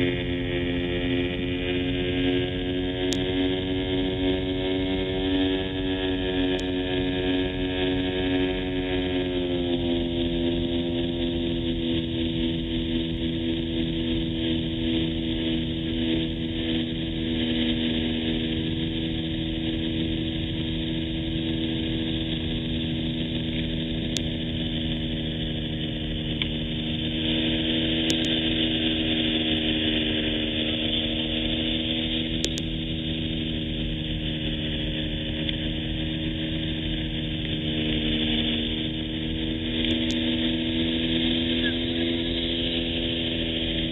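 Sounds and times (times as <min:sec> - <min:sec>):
propeller plane engine drone: 0:00.0 - 0:43.9.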